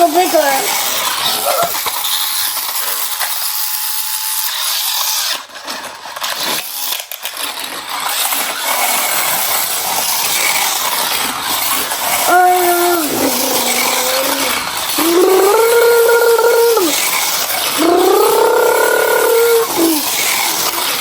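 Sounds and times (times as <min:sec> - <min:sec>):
toy car motor whirring: 0:00.0 - 0:21.0.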